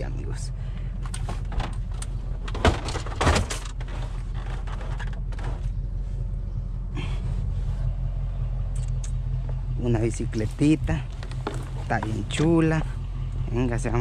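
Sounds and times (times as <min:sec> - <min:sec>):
car engine idling hum: 0:00.0 - 0:14.0.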